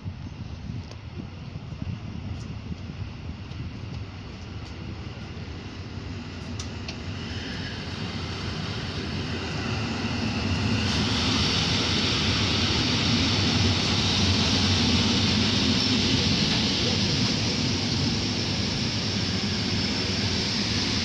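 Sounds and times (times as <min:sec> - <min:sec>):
train wheels rumbling: 0:00.0 - 0:21.0
electric train rolling in: 0:02.8 - 0:21.0.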